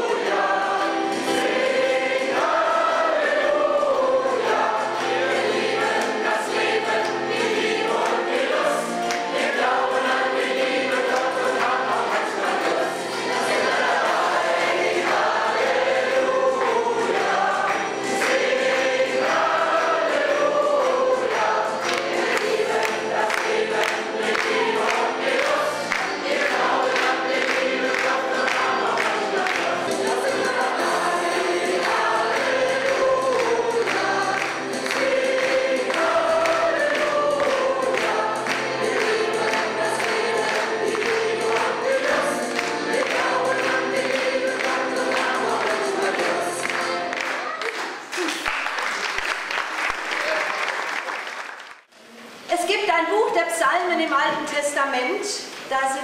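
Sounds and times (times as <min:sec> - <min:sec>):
congregation singing: 0:00.0 - 0:48.1.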